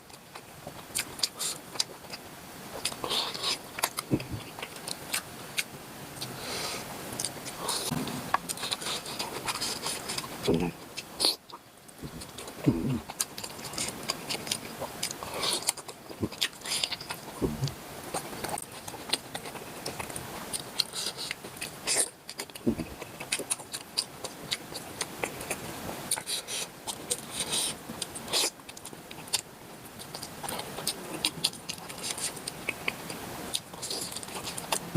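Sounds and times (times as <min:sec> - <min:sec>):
wet chewing and smacking: 0:00.2 - 0:02.2, 0:02.8 - 0:06.3, 0:07.2 - 0:34.9.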